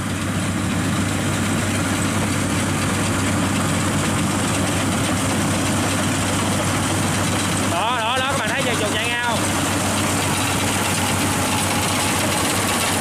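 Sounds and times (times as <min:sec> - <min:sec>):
harvester engine low hum: 0:00.0 - 0:13.0.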